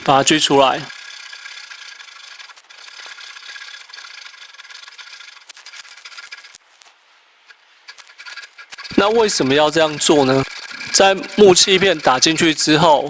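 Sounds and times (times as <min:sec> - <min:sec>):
hand saw cutting wood: 0:00.0 - 0:06.7, 0:07.5 - 0:13.0.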